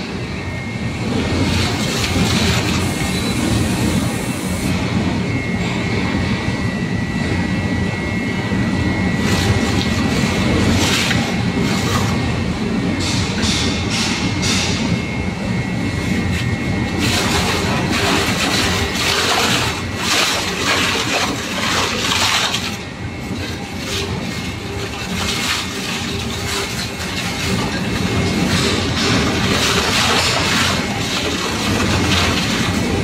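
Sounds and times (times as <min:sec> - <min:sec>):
tyre shredder machine rumble: 0:00.0 - 0:33.0.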